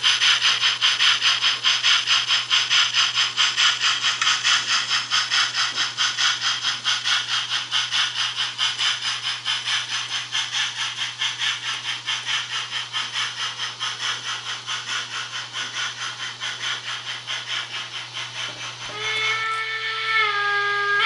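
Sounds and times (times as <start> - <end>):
model locomotive steam chuffs: 0.0 - 21.0.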